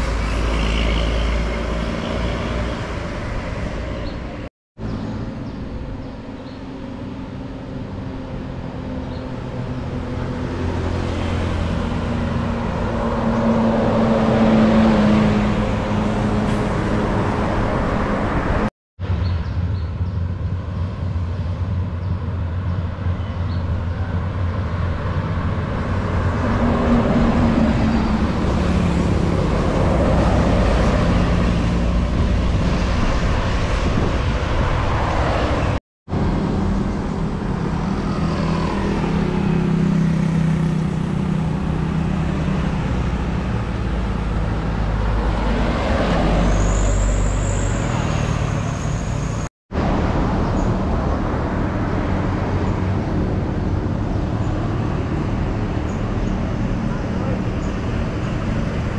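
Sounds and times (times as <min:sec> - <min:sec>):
buses passing with diesel rumble: 0:00.0 - 0:58.9.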